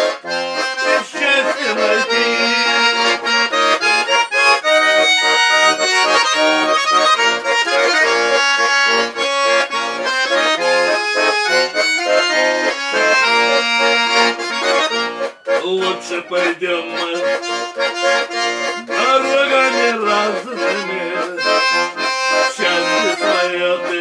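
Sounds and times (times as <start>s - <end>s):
accordion playing: 0.0s - 24.0s.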